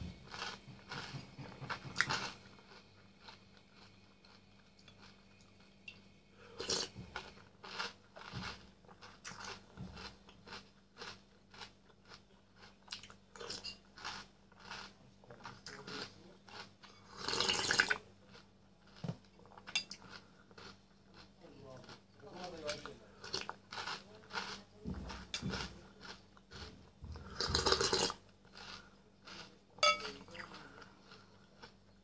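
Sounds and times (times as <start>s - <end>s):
chewing crunchy cereal: 0.1s - 32.0s.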